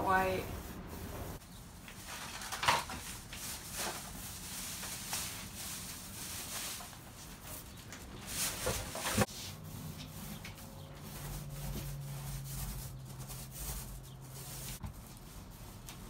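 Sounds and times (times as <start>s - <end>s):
paint roller rubbing strokes: 0.1s - 2.4s, 3.1s - 16.0s.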